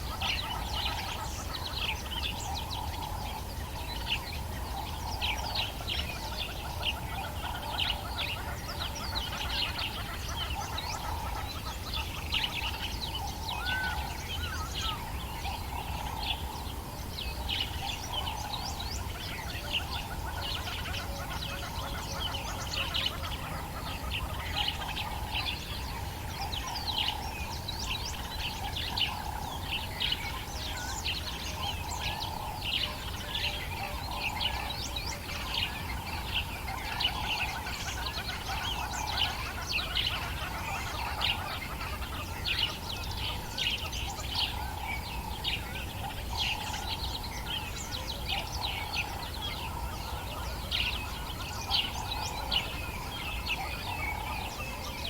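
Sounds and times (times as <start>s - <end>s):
lower repeated bird calls: 0.0s - 55.0s.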